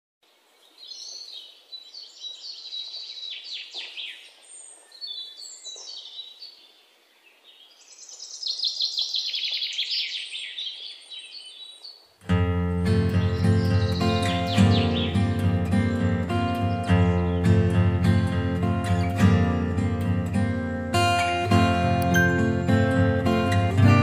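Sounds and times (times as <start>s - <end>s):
birds chirping: 0.3s - 24.0s.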